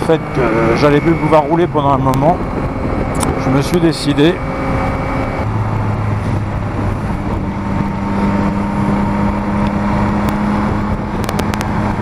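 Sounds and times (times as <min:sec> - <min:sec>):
motorcycle engine cruising: 0:00.0 - 0:12.0
wind rushing over microphone: 0:00.0 - 0:12.0.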